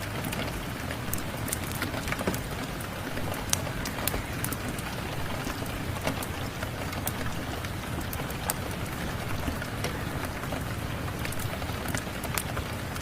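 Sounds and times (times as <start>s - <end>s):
rain: 0.0s - 13.0s
wood fire crackling: 0.0s - 13.0s.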